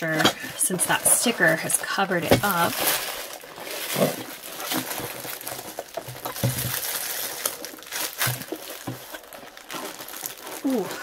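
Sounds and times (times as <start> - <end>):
cardboard and paper rustling: 0.0 - 11.0.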